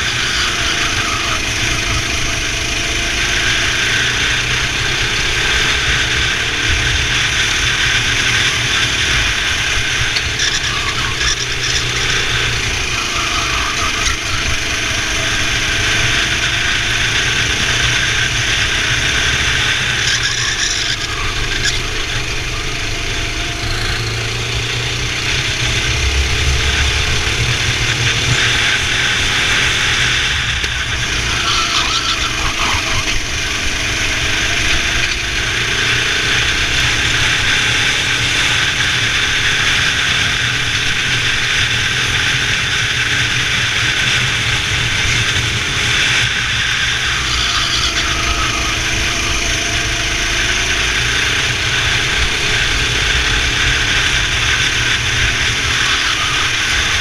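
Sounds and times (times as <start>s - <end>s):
racing kart engines revving: 0.0s - 57.0s.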